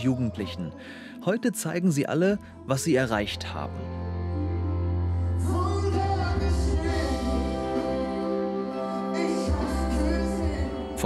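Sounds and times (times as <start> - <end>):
song with sustained chords: 0.0 - 11.0.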